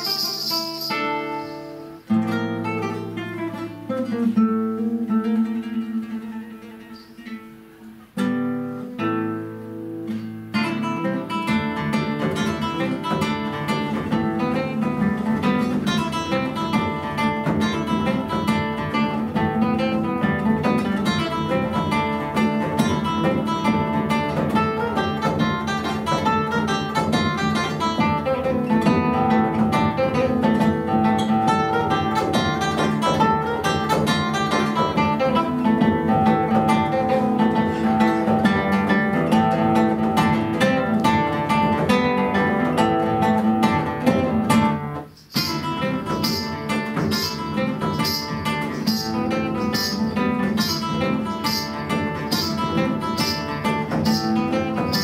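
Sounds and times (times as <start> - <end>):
bodhran beat: 0.0 - 55.0
classical guitar: 0.0 - 55.0.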